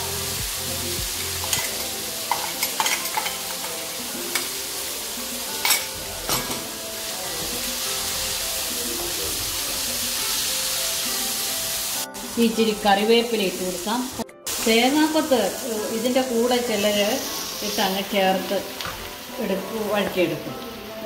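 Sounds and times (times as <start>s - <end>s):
onions frying in oil: 0.0s - 21.0s.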